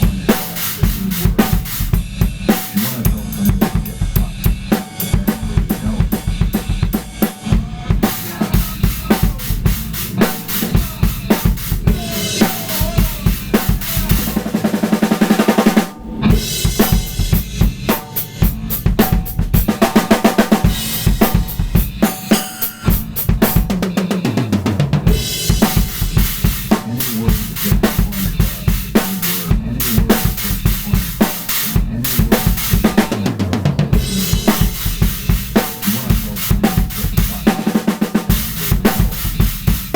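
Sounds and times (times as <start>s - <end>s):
drum kit playing fast strokes: 0.0s - 39.9s.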